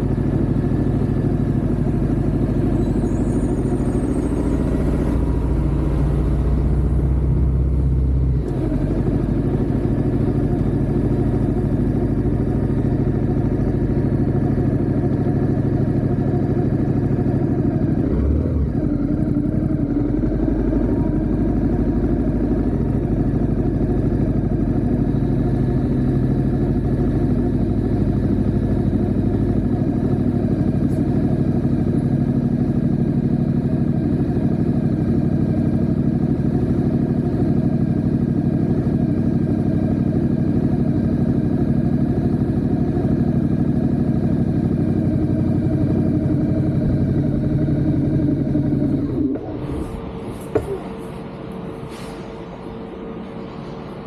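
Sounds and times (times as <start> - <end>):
motorcycle engine running: 0.0 - 51.1.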